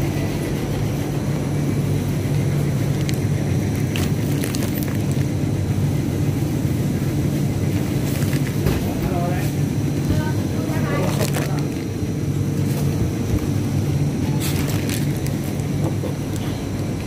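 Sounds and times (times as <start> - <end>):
freezer cases humming: 0.0 - 17.0.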